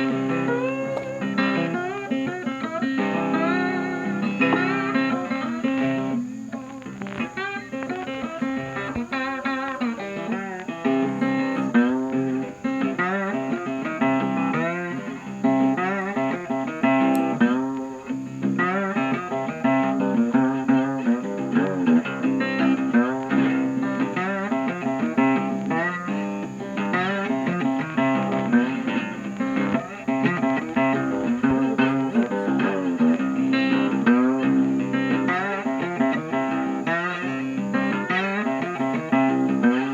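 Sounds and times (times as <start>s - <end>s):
blues guitar music: 0.0s - 39.9s.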